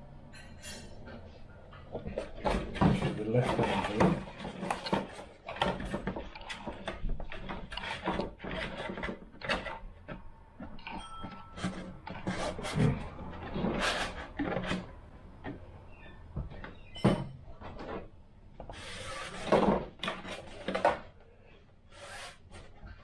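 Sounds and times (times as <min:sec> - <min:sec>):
parts being handled: 0:00.3 - 0:23.0.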